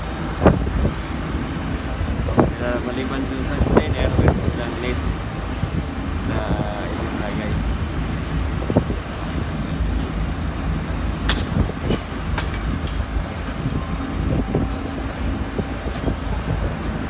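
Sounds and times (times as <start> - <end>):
deck machinery humming: 0.0 - 17.0.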